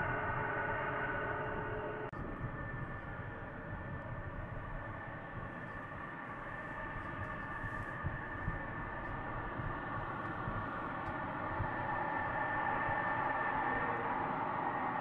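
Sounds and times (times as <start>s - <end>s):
jet engine whine and roar: 0.0s - 15.0s.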